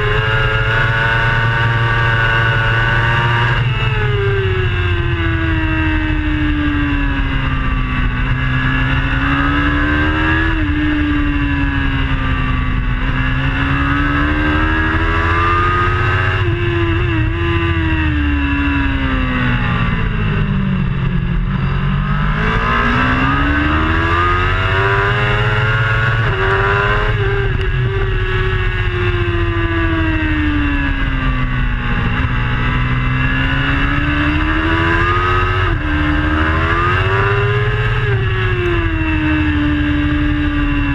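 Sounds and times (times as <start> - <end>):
racing motorcycle engine: 0.0 - 40.9.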